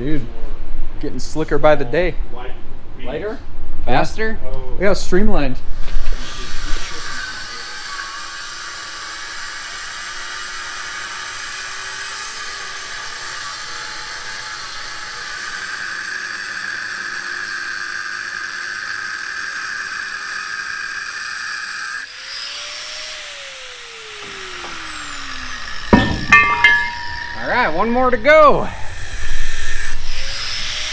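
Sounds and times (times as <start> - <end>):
angle grinder cutting steel: 5.8 - 30.9.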